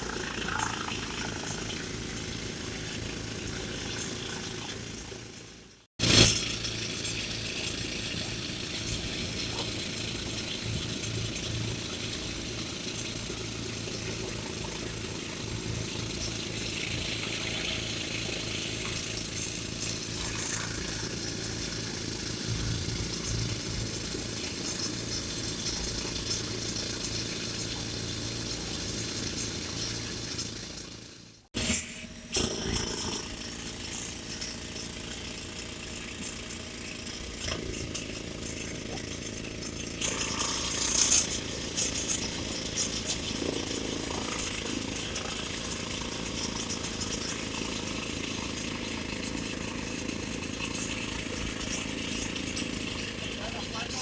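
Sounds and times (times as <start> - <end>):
diesel engine humming: 0.0 - 31.5, 33.2 - 54.0.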